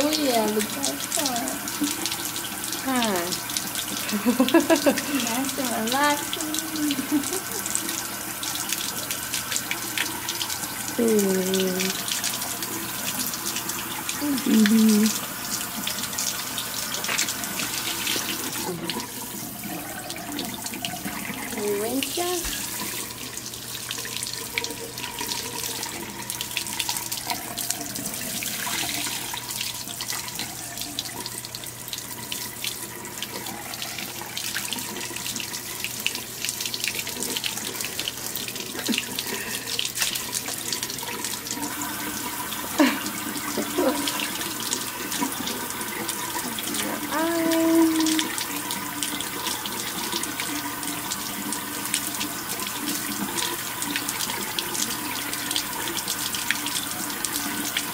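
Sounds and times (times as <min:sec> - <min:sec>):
water running from sink tap: 0:00.0 - 0:57.9.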